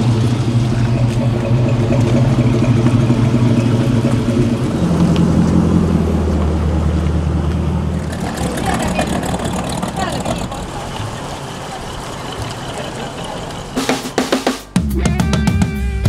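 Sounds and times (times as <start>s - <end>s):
car engine running: 0.0s - 14.8s.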